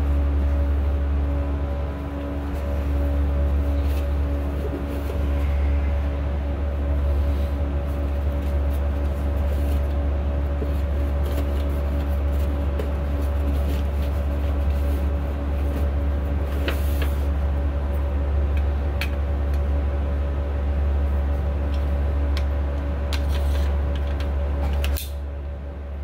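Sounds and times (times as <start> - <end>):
ventilation rumble: 0.0 - 26.0.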